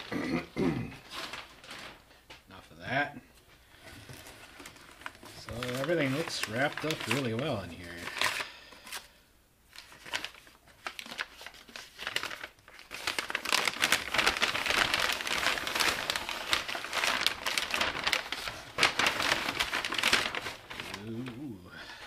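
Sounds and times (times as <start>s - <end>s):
packing paper rustling and crinkling: 0.9s - 22.0s.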